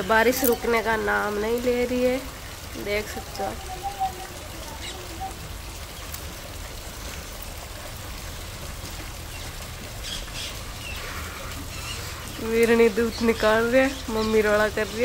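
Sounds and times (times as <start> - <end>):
rain falling into puddles: 0.0 - 15.0.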